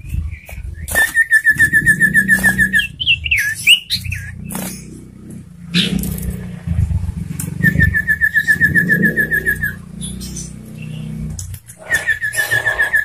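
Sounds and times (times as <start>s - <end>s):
songbird singing rapid trills: 0.0s - 6.5s, 7.4s - 13.0s
steady low hum: 0.0s - 13.0s.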